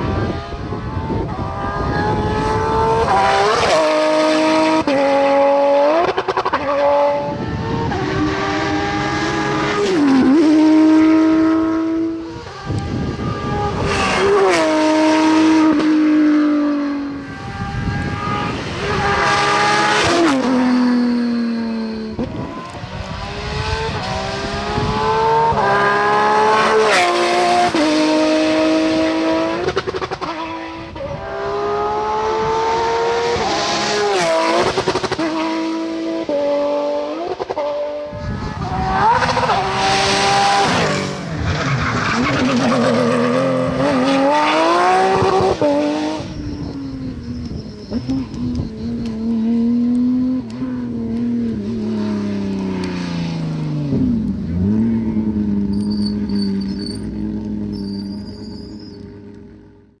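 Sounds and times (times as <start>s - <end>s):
race car engine revving: 0.0s - 59.6s.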